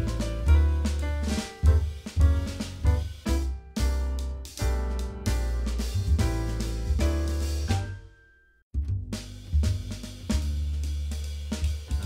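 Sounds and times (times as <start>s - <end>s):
music with drums and bass: 0.0s - 8.1s, 8.7s - 12.0s.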